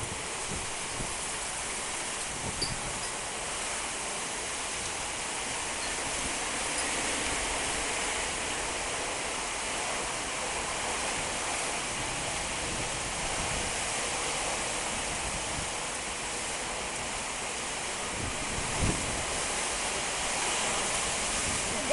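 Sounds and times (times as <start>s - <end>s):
heavy rain: 0.0s - 21.9s
strong wind: 0.0s - 21.9s.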